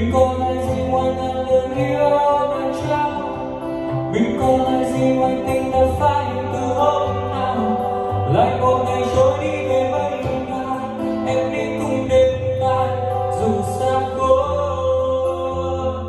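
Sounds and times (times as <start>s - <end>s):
pop ballad singing: 0.0s - 16.0s
steady bass: 0.0s - 16.0s.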